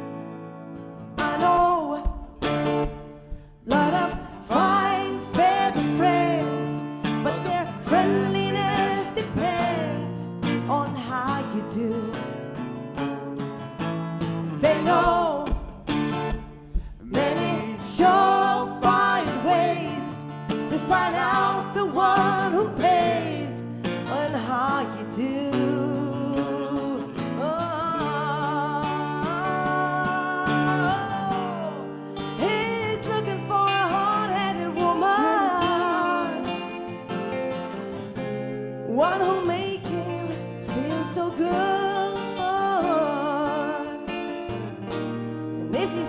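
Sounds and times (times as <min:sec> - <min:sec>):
acoustic guitar: 0:00.0 - 0:46.0.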